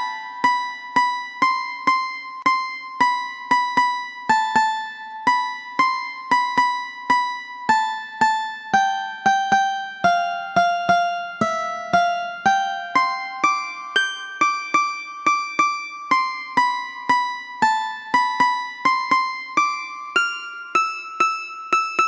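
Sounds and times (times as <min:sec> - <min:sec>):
plucked string melody: 0:00.0 - 0:22.0.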